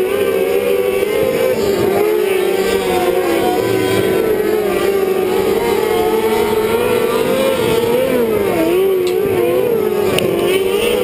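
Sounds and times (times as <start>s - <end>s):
kart engines racing: 0.0s - 11.0s.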